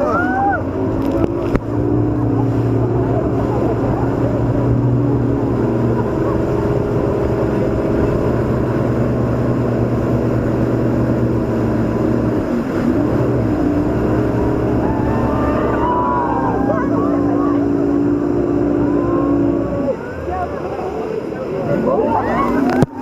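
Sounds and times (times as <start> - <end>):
boat engines running: 0.0 - 23.0.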